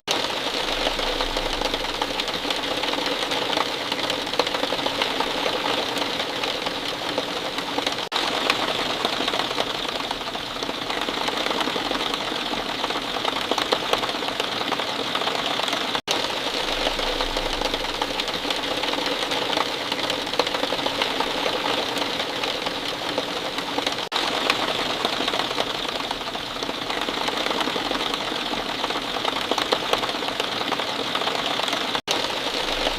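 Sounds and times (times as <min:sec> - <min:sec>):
rain drops pattering: 0:00.1 - 0:32.9.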